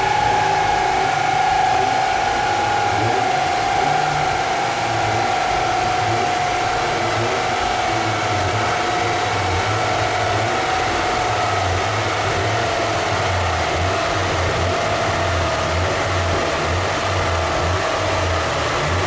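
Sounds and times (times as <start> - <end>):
high tone dropping in pitch: 0.0 - 16.8
cooling fan air rush: 0.0 - 19.0
mechanical hum: 0.0 - 19.0.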